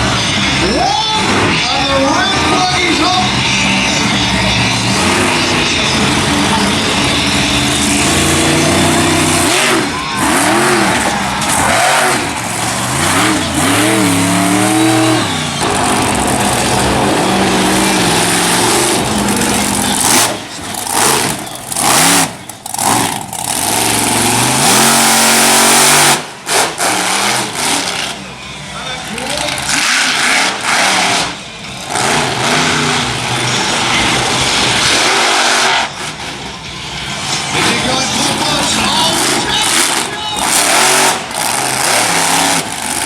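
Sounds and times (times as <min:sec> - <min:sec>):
truck engine revving hard: 0:00.0 - 0:43.0.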